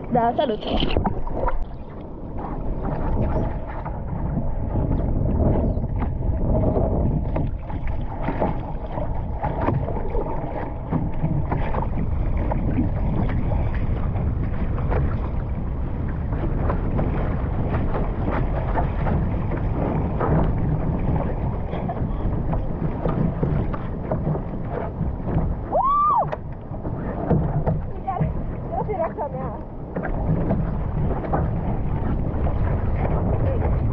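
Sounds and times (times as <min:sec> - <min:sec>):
water splashing and slapping: 0:00.0 - 0:33.9
wind buffeting microphone: 0:00.0 - 0:33.9.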